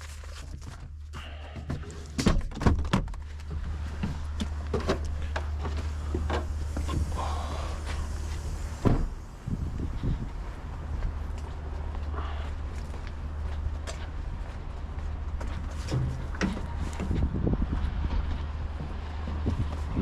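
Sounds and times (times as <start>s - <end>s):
diesel truck engine idling: 3.4s - 19.9s.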